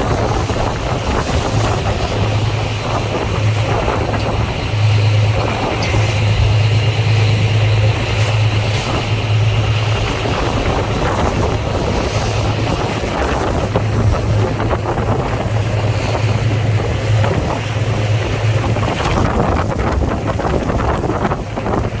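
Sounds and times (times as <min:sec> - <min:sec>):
boat engine droning: 0:00.0 - 0:22.0
water rushing along hull: 0:00.0 - 0:22.0
wind buffeting microphone: 0:00.0 - 0:22.0.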